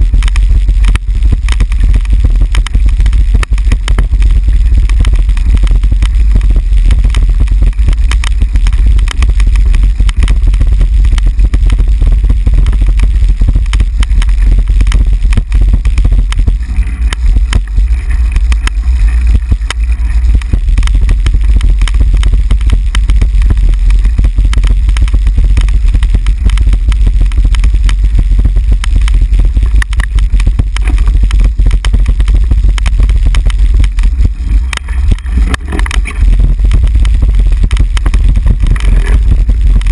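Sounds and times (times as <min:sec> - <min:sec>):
bicycle rolling over cobblestones: 0:00.0 - 0:39.9
camera rattling: 0:00.0 - 0:39.9
wind buffeting microphone: 0:00.0 - 0:39.9.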